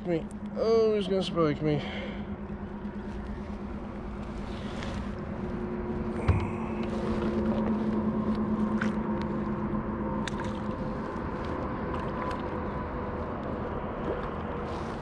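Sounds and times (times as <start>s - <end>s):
steady motor hum: 0.0s - 15.0s.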